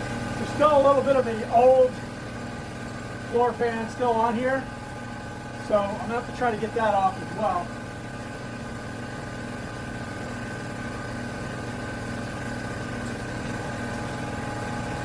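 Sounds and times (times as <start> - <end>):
small motor humming and whining: 0.0 - 15.0.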